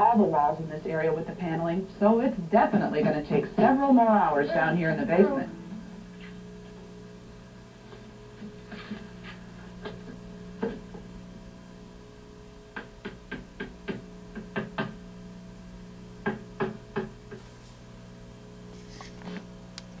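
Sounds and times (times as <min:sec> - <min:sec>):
low mains hum: 0:00.0 - 0:20.0.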